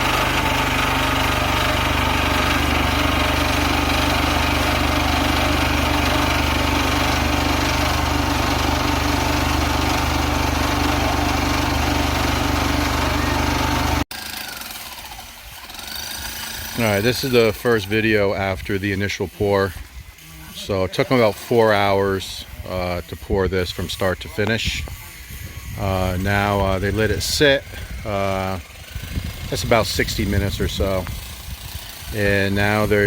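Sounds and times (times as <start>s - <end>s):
concrete mixer engines humming: 0.0s - 33.0s.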